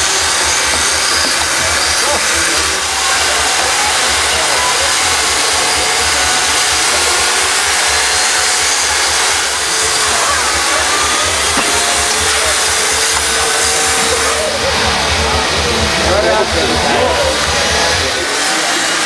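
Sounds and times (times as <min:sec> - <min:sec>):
chainsaws cutting ice: 0:00.0 - 0:19.0.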